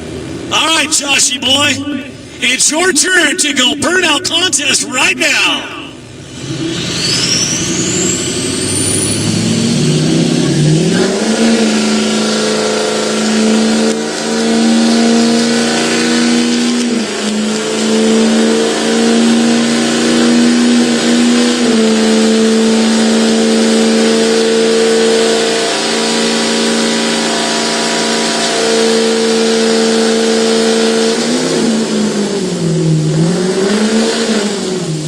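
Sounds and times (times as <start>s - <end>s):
engine revving: 0.0s - 35.0s.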